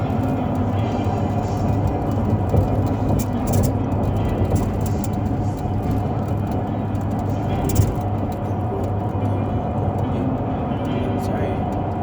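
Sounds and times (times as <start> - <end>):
rattles inside vehicle: 0.0 - 12.0
vehicle engine and road rumble: 0.0 - 12.0.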